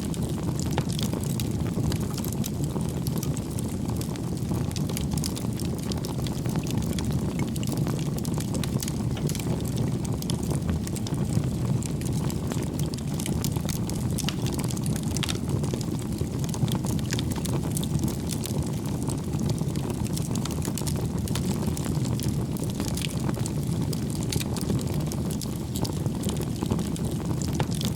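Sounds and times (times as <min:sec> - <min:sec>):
burning logs crackling and popping: 0:00.0 - 0:27.9
low rush of flames: 0:00.0 - 0:27.9.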